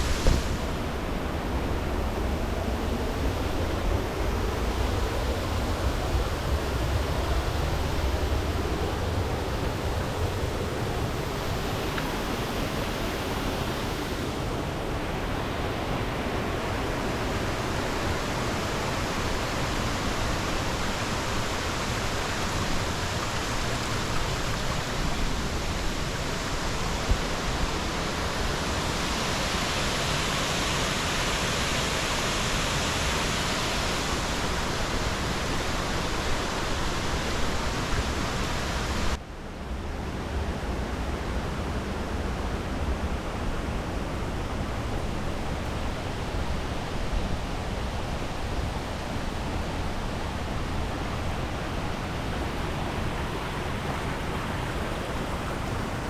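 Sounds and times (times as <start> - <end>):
waterfall rushing: 0.0 - 39.2, 43.0 - 56.0.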